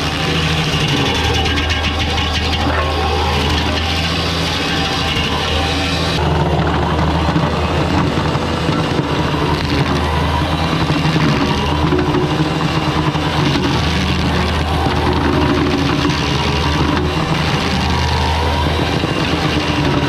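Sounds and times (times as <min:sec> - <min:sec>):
skid-steer engine running: 0:00.0 - 0:20.0.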